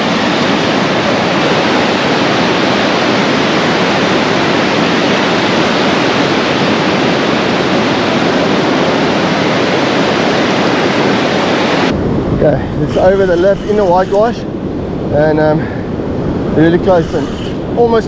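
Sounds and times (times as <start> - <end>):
breaking surf: 0.0 - 18.0
wind on the shore: 0.0 - 18.0.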